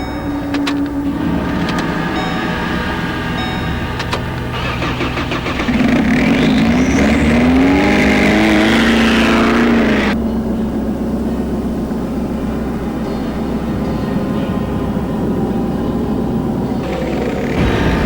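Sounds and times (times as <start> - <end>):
car engine revving: 0.0 - 18.0
steady low rumble: 0.0 - 18.0.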